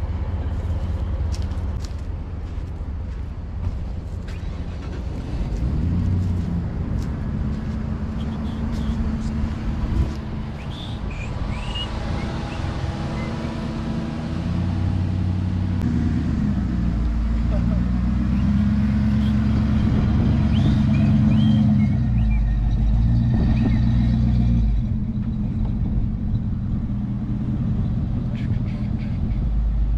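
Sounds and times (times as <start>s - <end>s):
wind rumbling on microphone: 0.0s - 17.0s, 18.9s - 29.9s
truck engine idling: 0.0s - 29.9s.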